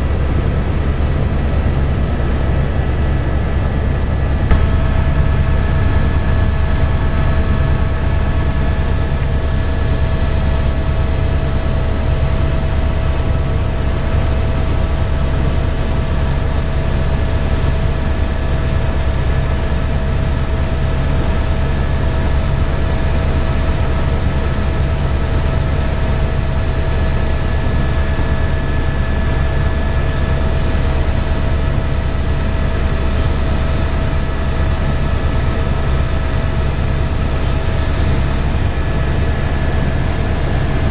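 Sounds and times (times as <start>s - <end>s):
helicopter rotor drone: 0.0s - 40.9s
turbine whine: 0.0s - 40.9s.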